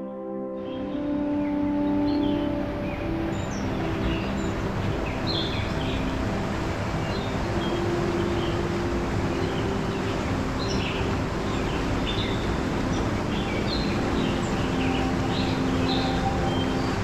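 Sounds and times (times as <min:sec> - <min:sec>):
small birds chirping: 0:00.7 - 0:17.0
stream rushing over rocks: 0:01.0 - 0:17.0.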